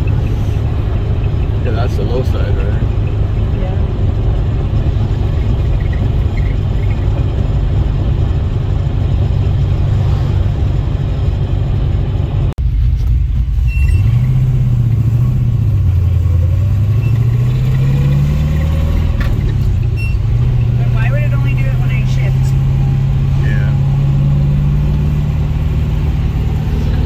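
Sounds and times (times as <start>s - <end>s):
car engine: 0.0s - 27.0s
road noise: 0.0s - 27.0s.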